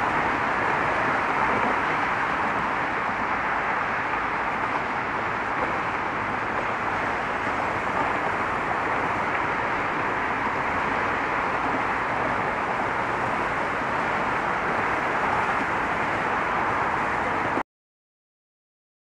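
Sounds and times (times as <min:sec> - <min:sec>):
road traffic hiss: 0:00.0 - 0:17.6.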